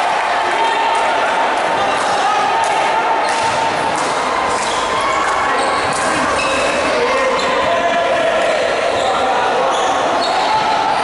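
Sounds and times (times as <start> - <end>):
players' voices and calls: 0.0 - 11.0.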